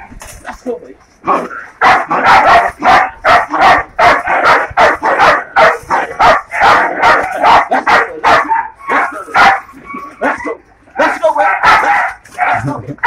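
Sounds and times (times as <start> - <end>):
dog barking aggressively: 1.2 - 13.0.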